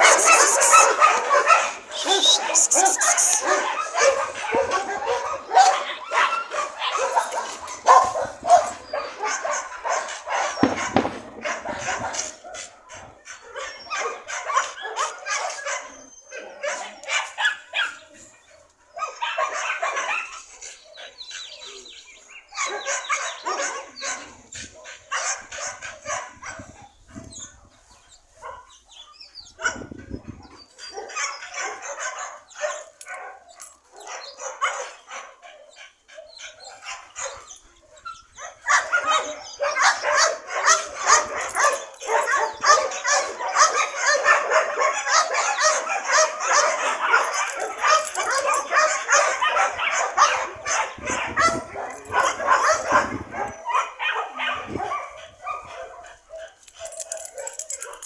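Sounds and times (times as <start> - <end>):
dogs barking and yipping: 0.0 - 58.0.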